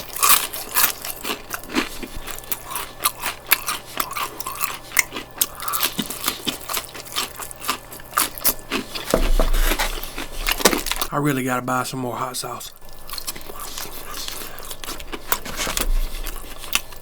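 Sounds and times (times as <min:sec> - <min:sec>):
crunchy chewing of fried chicken: 0:00.0 - 0:11.1, 0:12.7 - 0:17.0.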